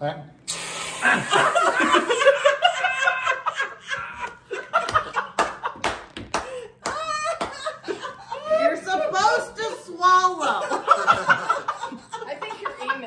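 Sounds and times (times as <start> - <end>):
people laughing loudly: 1.0 - 9.0, 10.4 - 13.0.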